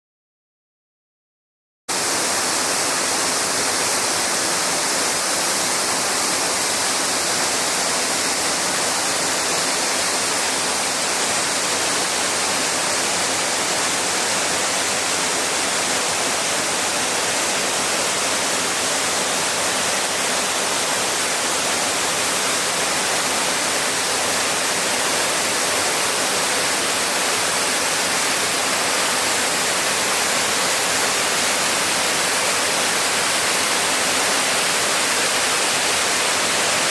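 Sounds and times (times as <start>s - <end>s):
waterfall rushing: 1.9s - 36.9s.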